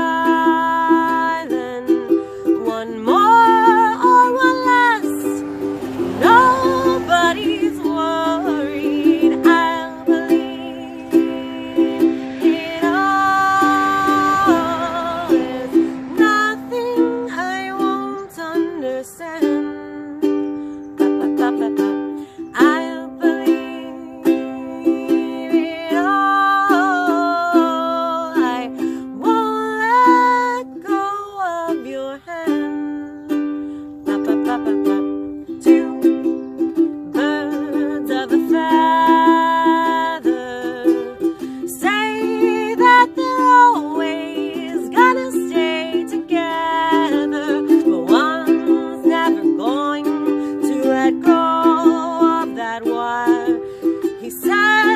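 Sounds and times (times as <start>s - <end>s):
ukulele strummed chords: 0.0s - 54.9s
woman singing: 0.0s - 54.9s.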